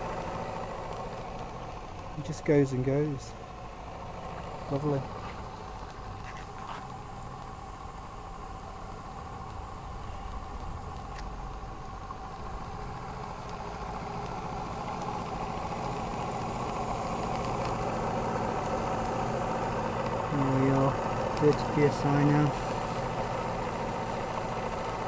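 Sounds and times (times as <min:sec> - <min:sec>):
model steam engine running: 0:00.0 - 0:06.1, 0:06.9 - 0:25.0.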